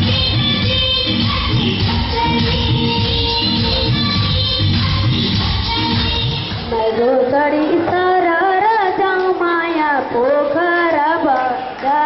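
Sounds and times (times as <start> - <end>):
dance music: 0.0 - 11.1
boy singing into a microphone: 0.0 - 12.0.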